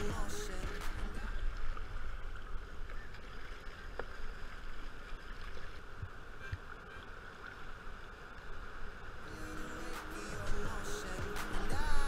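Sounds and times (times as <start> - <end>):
river water splashing around kayak: 0.0 - 12.0.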